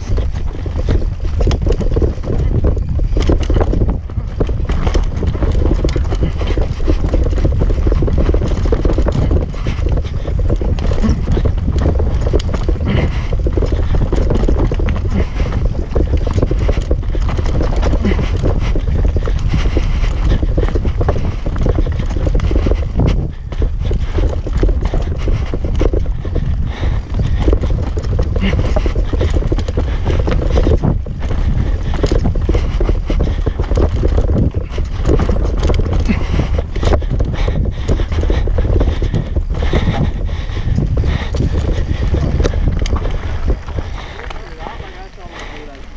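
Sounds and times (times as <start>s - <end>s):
bike frame and chain rattling: 0.0s - 45.9s
wind rumbling on microphone: 0.0s - 45.9s.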